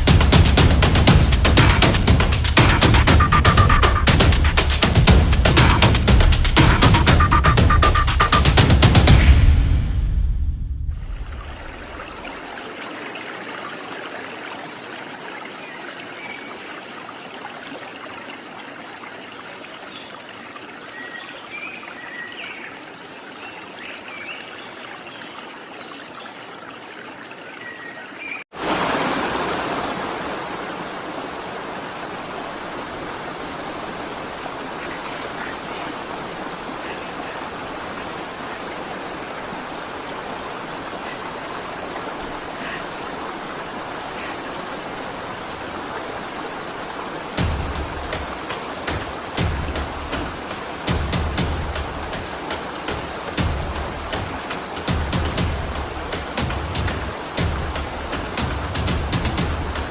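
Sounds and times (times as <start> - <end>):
stream water flowing: 0.0 - 9.8, 10.8 - 59.9.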